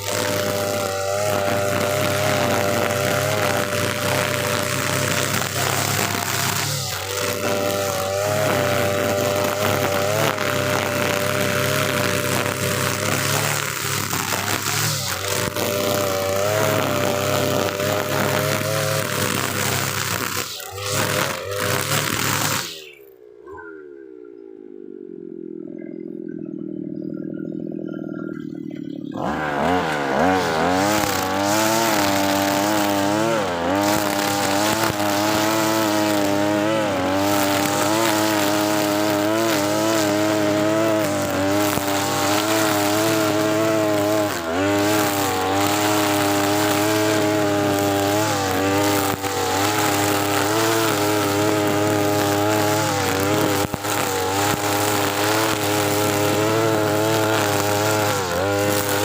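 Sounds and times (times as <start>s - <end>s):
brush cutter engine revving: 0.0s - 23.4s, 25.0s - 59.0s.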